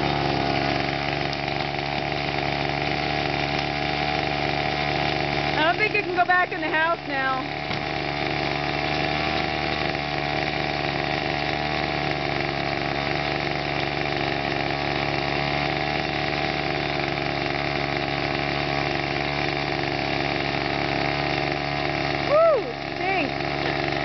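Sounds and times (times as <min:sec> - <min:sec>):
chainsaw idling: 0:00.0 - 0:24.0.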